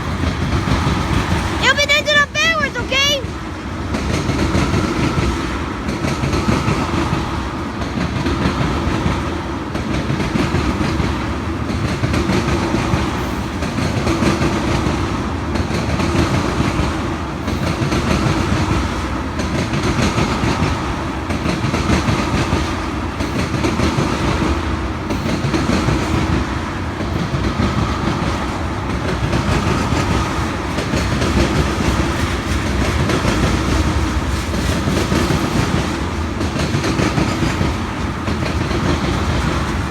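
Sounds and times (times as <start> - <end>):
train wheels clicking on rails: 0.0 - 39.9.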